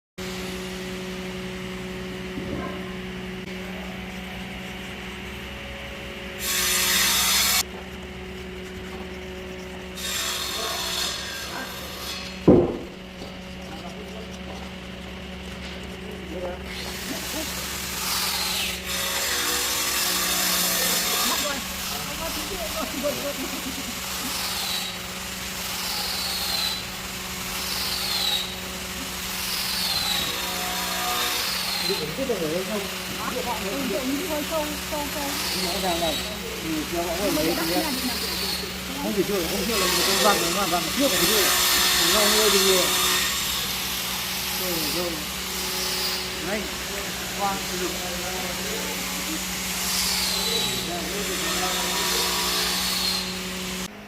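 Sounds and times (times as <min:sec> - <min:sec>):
steady machine hum: 0:00.2 - 0:54.0
sandpaper scraping wood: 0:03.0 - 0:53.9.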